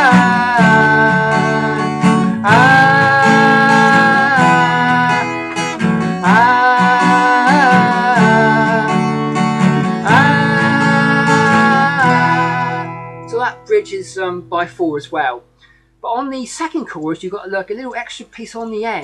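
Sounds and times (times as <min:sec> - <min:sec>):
acoustic guitar strumming chords: 0:00.0 - 0:15.8.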